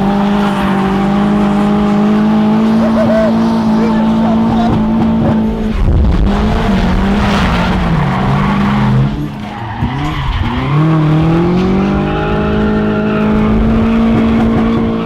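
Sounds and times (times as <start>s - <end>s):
tyre squeal and skidding: 0.0s - 5.0s, 7.2s - 15.0s
car engine revving: 0.0s - 15.0s.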